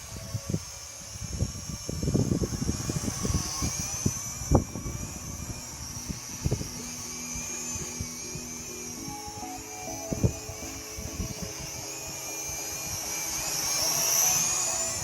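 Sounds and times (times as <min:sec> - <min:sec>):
wind rumbling on microphone: 0:00.0 - 0:09.1, 0:10.0 - 0:14.0
drone propellers whining: 0:00.0 - 0:15.0.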